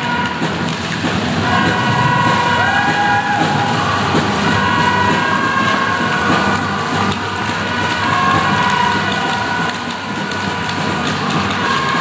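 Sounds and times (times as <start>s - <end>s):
crowd din: 0.0s - 12.0s
sustained horn tones: 0.0s - 12.0s.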